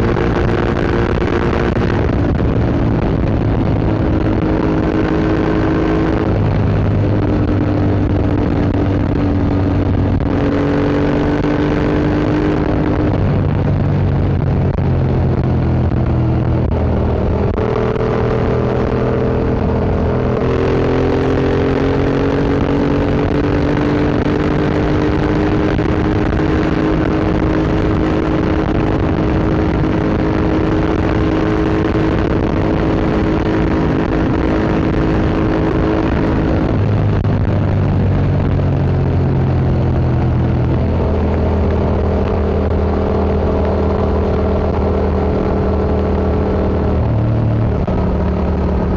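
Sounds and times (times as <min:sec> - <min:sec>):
motorcycle engine under way: 0:00.0 - 0:48.9.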